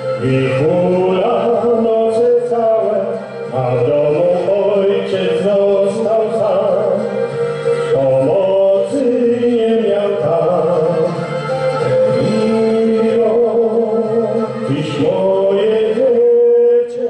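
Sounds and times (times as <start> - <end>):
instrumental backing music: 0.0 - 17.0
man singing with vibrato: 0.0 - 17.0.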